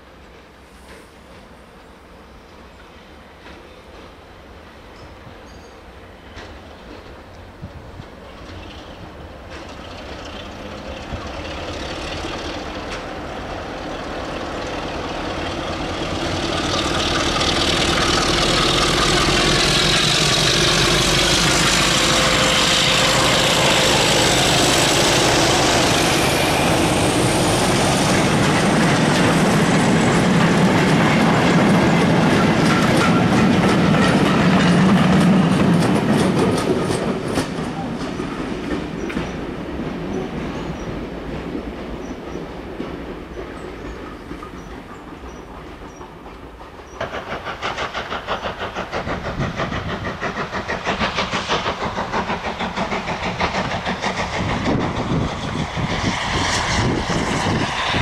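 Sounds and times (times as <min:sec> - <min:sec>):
diesel locomotive engine: 0:00.0 - 0:58.0.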